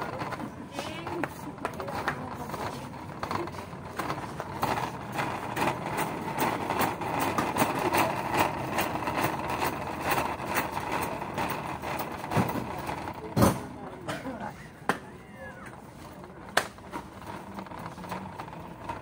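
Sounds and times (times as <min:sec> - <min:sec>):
shopping cart rattling on concrete: 0:00.0 - 0:14.4, 0:15.2 - 0:19.0.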